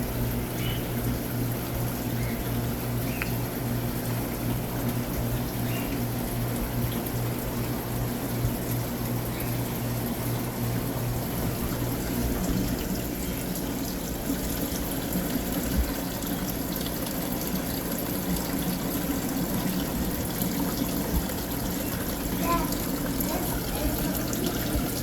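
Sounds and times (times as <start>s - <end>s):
low pump hum: 0.0s - 25.0s
trickling water: 0.0s - 25.0s.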